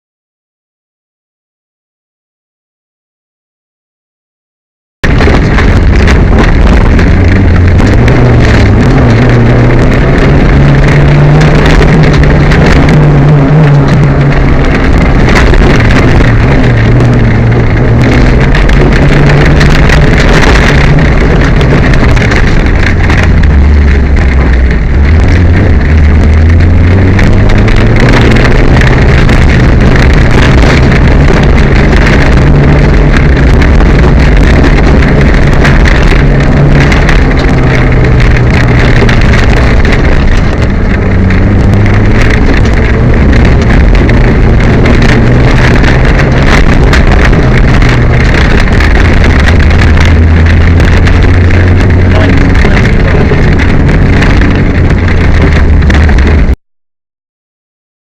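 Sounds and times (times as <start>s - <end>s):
misfiring car engine at speed: 5.0s - 56.6s
road and wind noise: 5.0s - 56.6s.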